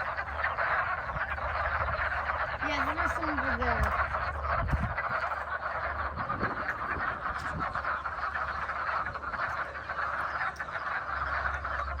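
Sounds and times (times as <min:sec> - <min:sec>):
frogs croaking in chorus: 0:00.0 - 0:12.0.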